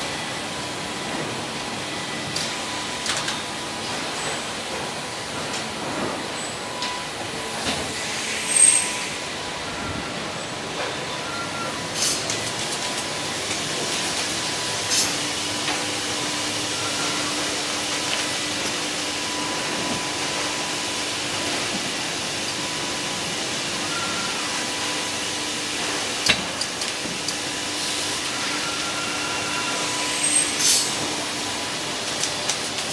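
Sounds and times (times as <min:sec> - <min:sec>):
industrial machine noise: 0:00.0 - 0:32.9.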